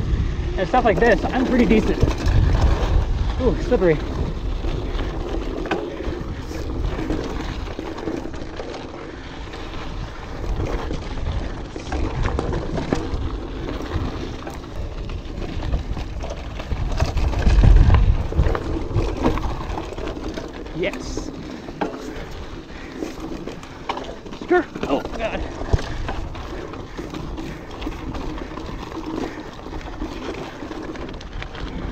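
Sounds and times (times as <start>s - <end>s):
bike rattling over rocks: 0.0s - 31.9s
bike tyres crunching on gravel: 0.0s - 31.9s
wind rumbling on microphone: 0.0s - 31.9s.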